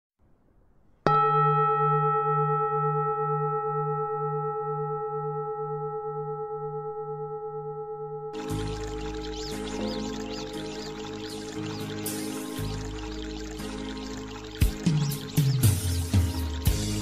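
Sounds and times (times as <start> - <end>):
singing bowl ringing: 1.0 - 15.4.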